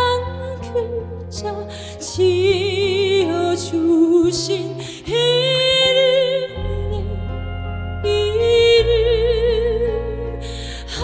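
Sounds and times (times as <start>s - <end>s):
slow sad song with vibrato: 0.0s - 11.0s
soft bass accompaniment: 0.0s - 11.0s.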